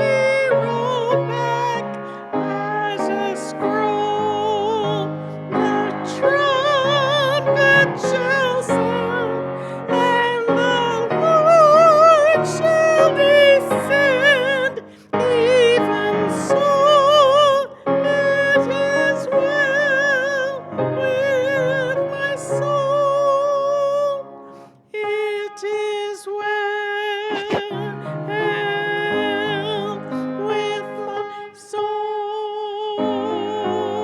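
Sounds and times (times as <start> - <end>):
piano accompaniment: 0.0 - 34.0.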